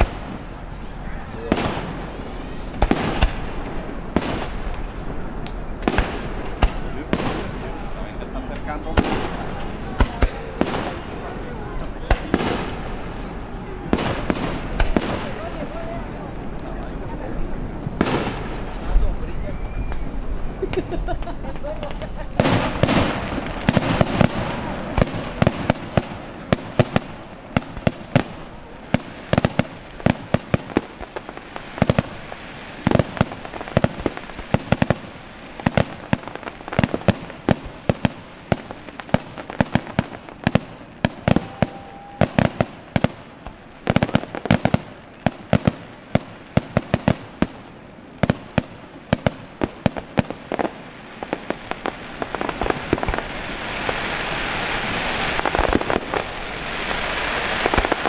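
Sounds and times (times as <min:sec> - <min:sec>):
fireworks bursting: 0:00.0 - 0:58.0
fireworks crackling hiss: 0:00.0 - 0:58.0.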